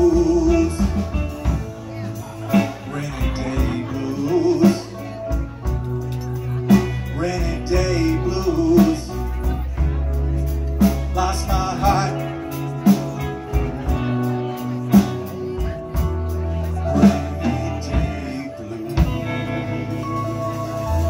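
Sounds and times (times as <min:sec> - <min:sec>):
blues band playing: 0:00.0 - 0:21.0.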